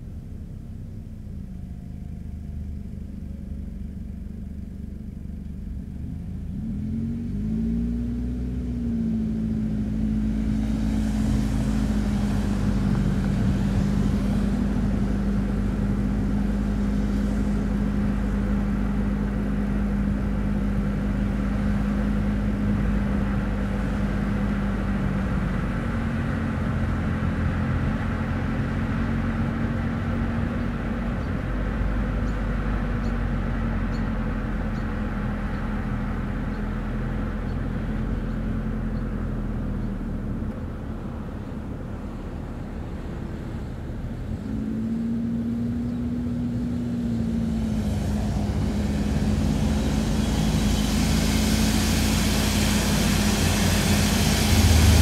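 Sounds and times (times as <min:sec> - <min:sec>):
car engine accelerating: 0:00.0 - 0:55.0
road and tyre noise: 0:00.0 - 0:55.0.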